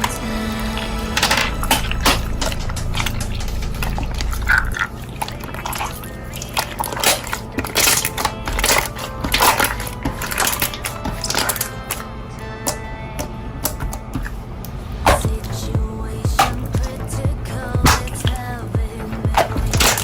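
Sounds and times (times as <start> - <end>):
quiet background music: 0.0 - 20.0.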